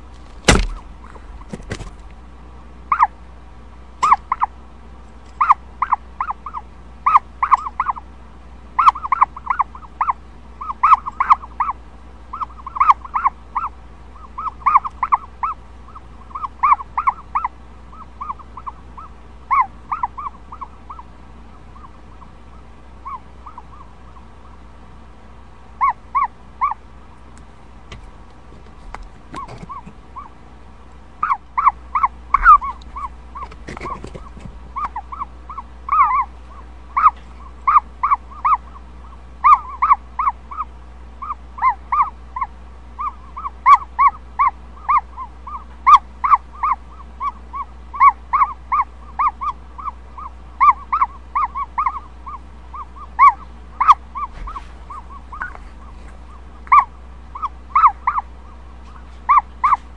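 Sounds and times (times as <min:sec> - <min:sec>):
faint low hum: 0:00.0 - 0:59.9
chick peeping: 0:02.9 - 0:03.1, 0:04.0 - 0:04.6, 0:05.4 - 0:08.1, 0:08.8 - 0:24.6, 0:25.8 - 0:26.8, 0:31.2 - 0:59.9.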